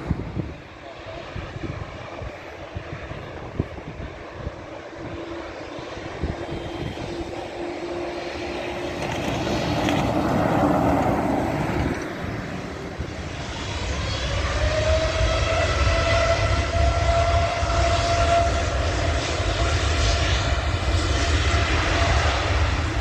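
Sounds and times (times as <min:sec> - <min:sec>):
jet engines taxiing: 0:00.0 - 0:23.0
rising jet whine: 0:00.0 - 0:23.0.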